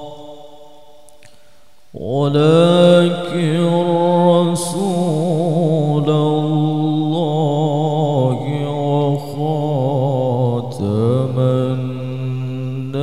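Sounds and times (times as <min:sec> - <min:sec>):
man chanting through a microphone: 0:02.0 - 0:13.0.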